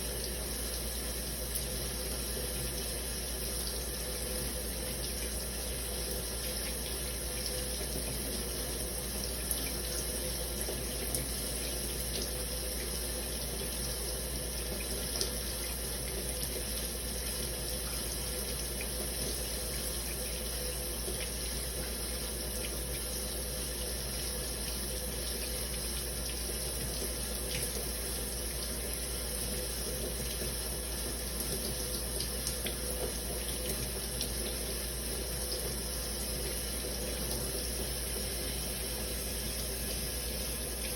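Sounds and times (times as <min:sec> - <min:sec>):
shower water running: 0:00.0 - 0:40.9
water drips and splashes: 0:00.0 - 0:40.9.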